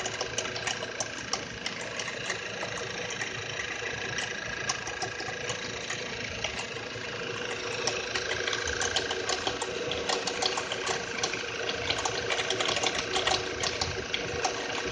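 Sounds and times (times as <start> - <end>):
car engine idling: 0.0 - 14.9
rapid ticking clatter: 0.0 - 14.9.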